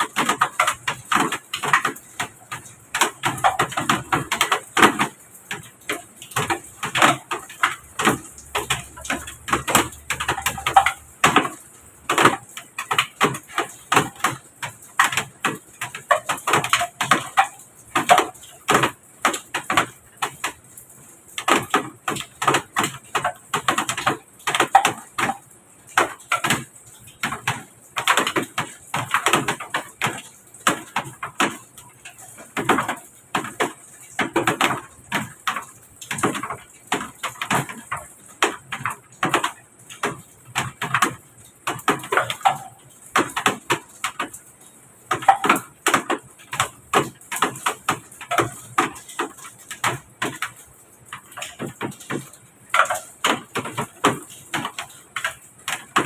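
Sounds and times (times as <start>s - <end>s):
sharp clicks and knocks: 0.0s - 56.0s.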